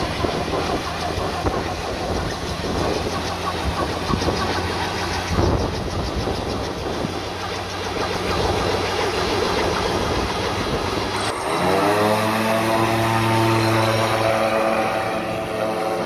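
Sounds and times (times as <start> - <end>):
helicopter engine clattering: 0.0 - 16.0
steady pitched hum: 0.0 - 16.0.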